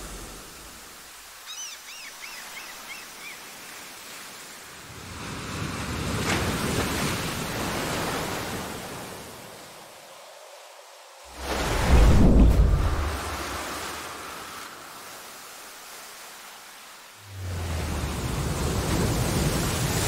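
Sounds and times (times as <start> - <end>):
ocean waves crashing: 0.0 - 10.1, 11.2 - 20.0.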